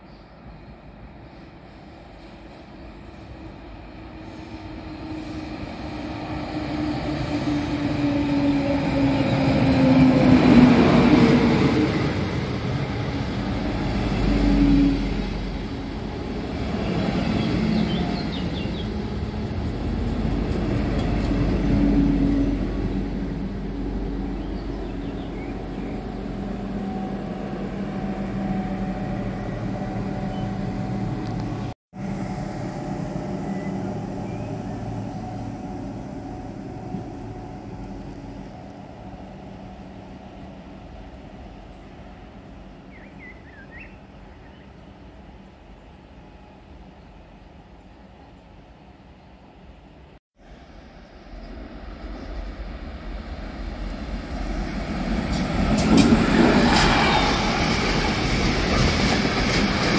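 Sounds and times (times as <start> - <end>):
train passing close by: 0.0 - 59.9.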